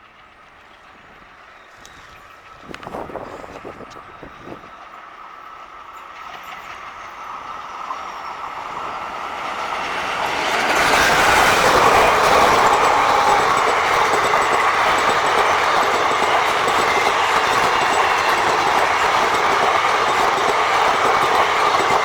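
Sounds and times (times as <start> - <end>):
train wheels clattering on track: 0.0 - 22.0.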